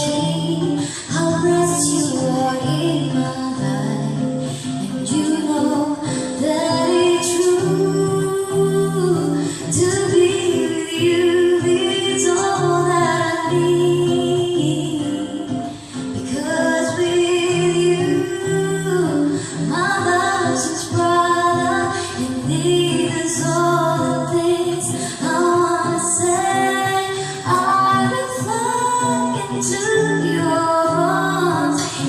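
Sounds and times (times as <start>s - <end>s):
woman singing: 0.0s - 32.0s.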